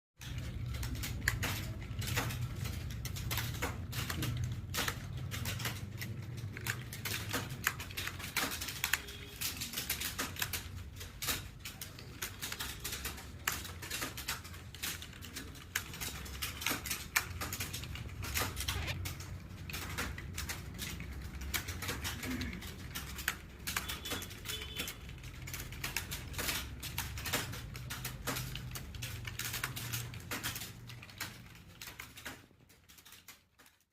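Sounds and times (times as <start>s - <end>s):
keyboard typing: 0.2s - 33.9s.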